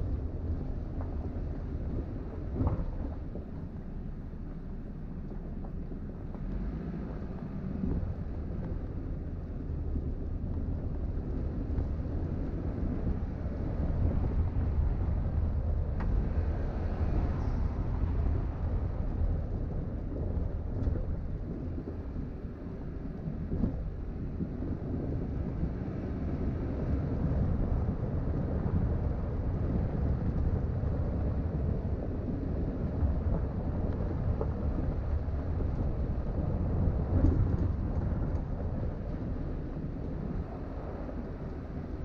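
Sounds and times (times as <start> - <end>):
vehicle rumbling on dirt road: 0.0 - 42.0.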